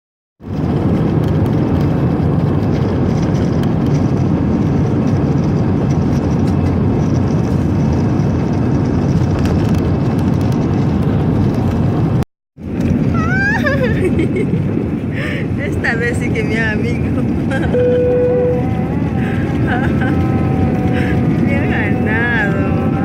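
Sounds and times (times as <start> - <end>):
airplane engines at takeoff: 0.4 - 23.0.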